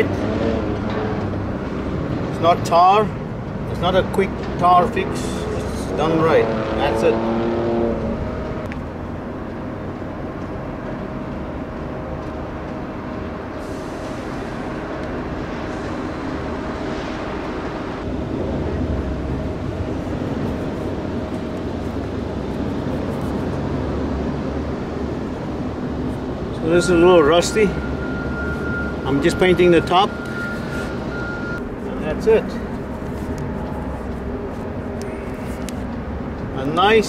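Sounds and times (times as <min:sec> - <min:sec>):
steady rumbling background noise: 0:00.0 - 0:07.2, 0:07.9 - 0:37.0.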